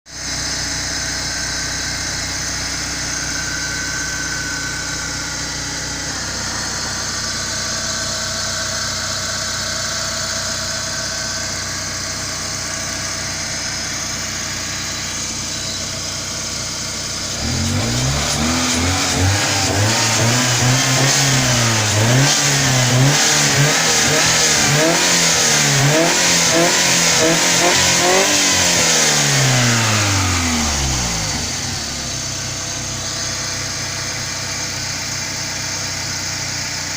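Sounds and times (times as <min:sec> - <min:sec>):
car engine idling and revving: 0:00.1 - 0:36.9.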